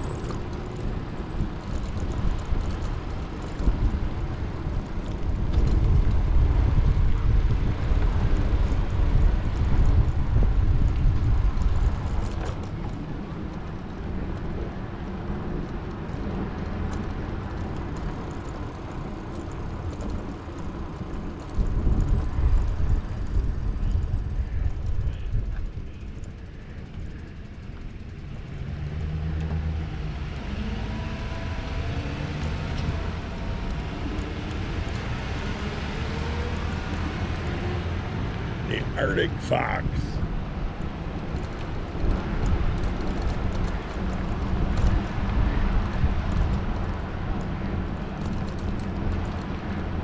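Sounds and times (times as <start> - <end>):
wind and road noise: 0.0 - 50.0.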